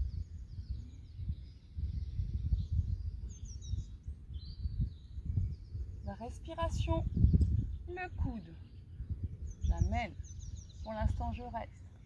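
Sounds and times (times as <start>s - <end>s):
small birds chirping: 0.0s - 12.0s
wind buffeting microphone: 0.0s - 12.0s.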